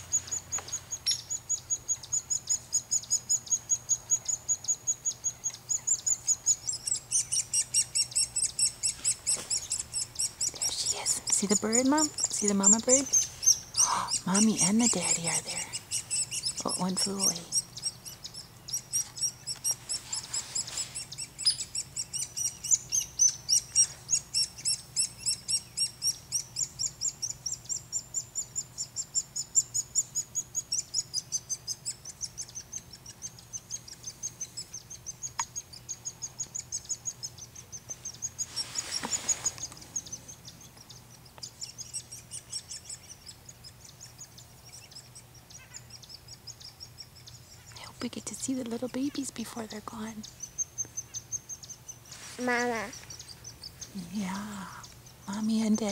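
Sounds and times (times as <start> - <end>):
nestlings chirping: 0.0 - 55.9.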